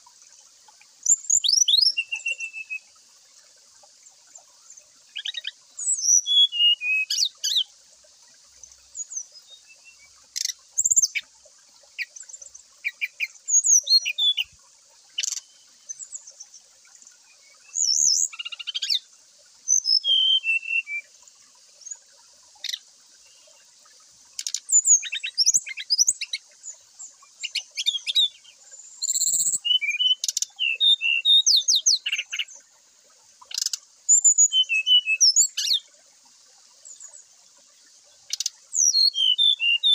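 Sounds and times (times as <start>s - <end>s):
bird singing chirps and trills: 1.0s - 3.0s, 4.4s - 7.8s, 8.5s - 23.8s, 24.4s - 32.7s, 33.4s - 35.9s, 36.7s - 39.9s.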